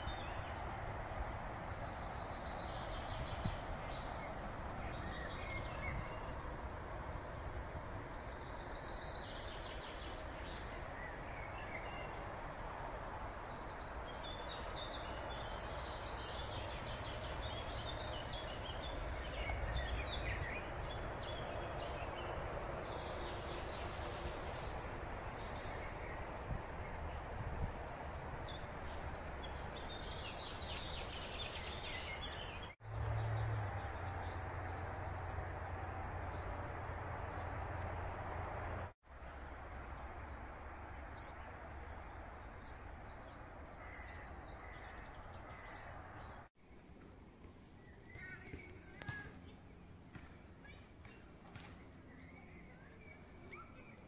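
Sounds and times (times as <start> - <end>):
small birds chirping: 0.0 - 38.1, 47.4 - 54.0.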